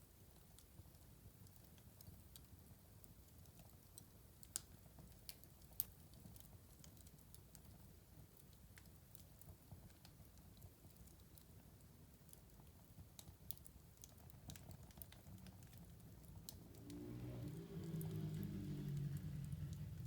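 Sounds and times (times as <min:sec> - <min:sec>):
wood fire crackling: 0:00.1 - 0:20.0
low rumble of burning: 0:00.2 - 0:20.0.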